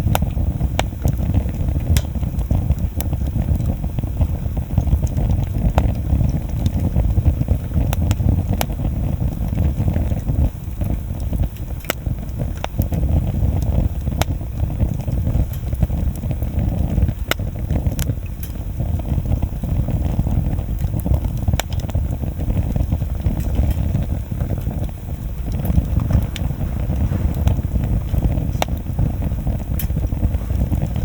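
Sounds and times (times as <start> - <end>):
burning wood popping: 0.0 - 31.0
low rush of flames: 0.0 - 31.0.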